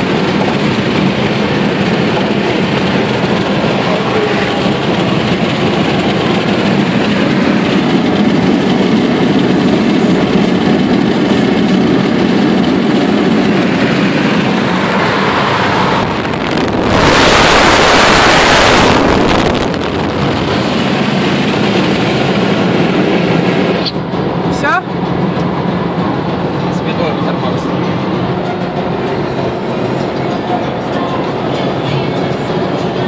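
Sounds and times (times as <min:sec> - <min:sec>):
car tyres and engine hum: 0:00.0 - 0:33.0
rushing noise: 0:00.0 - 0:33.0.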